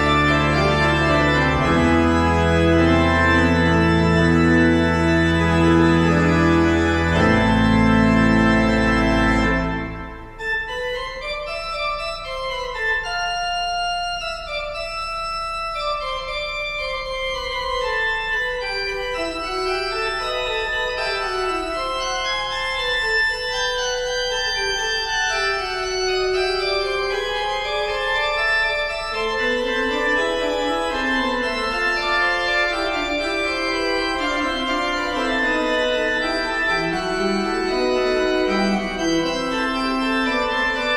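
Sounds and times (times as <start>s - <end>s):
organ playing: 0.0s - 40.9s.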